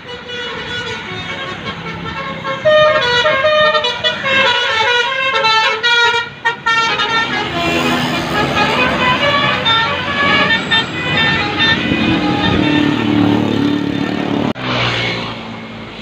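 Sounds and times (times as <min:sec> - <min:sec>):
multi-tone bus air horn tune: 0:00.0 - 0:14.5
engine and traffic noise: 0:00.0 - 0:16.0.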